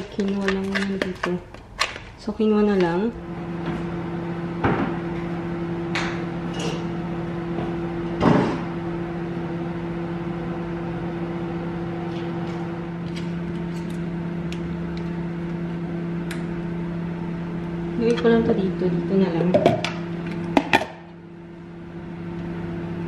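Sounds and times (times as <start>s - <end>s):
kitchen appliance hum: 0.0s - 23.0s.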